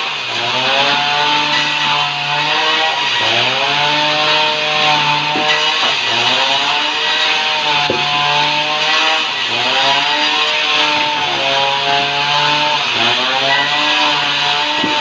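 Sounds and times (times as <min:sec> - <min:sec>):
band saw cutting timber: 0:00.0 - 0:15.0.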